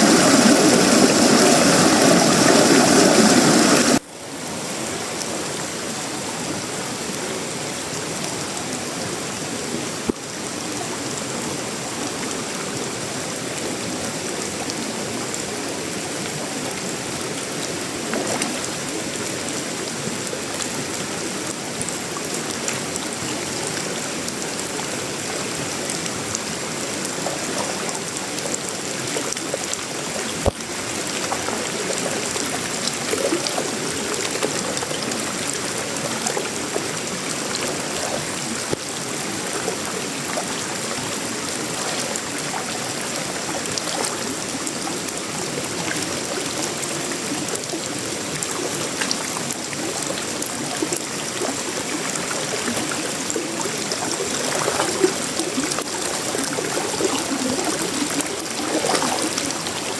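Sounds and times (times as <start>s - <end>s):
rain on metal roof and leaves: 0.0s - 59.9s.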